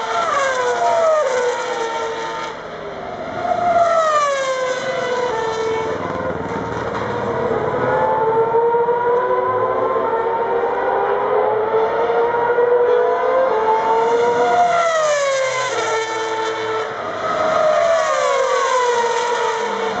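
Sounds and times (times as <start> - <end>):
racing car engines at high revs: 0.0 - 20.0
racing cars passing by: 0.0 - 20.0.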